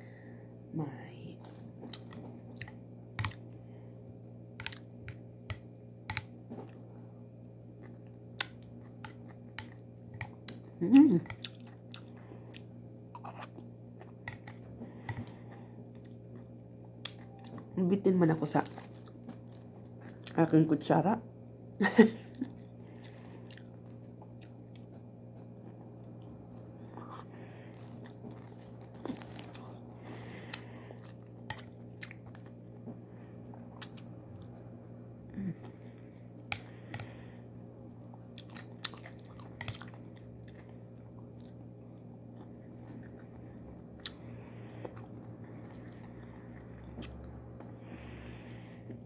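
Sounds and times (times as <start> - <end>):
steady low hum: 0.0 - 49.0
person chewing food: 1.4 - 3.8, 4.4 - 17.7, 18.6 - 20.4, 22.3 - 34.7, 35.4 - 49.0.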